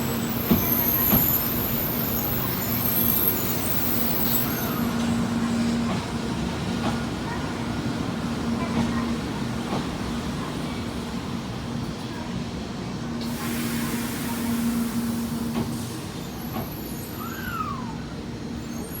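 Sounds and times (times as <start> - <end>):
train electric hum: 0.0 - 19.0.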